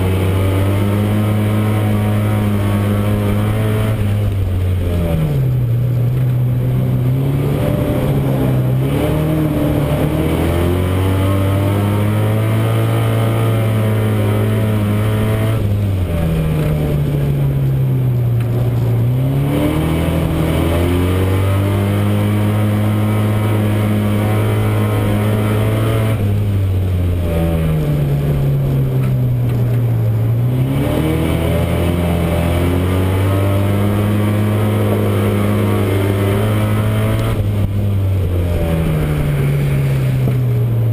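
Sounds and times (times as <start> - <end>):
race car engine at high revs: 0.0 - 40.9.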